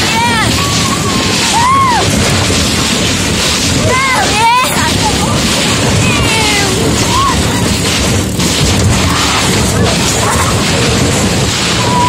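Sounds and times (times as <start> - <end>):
boat dragged over rough ground: 0.0 - 12.0
wind buffeting microphone: 0.0 - 12.0.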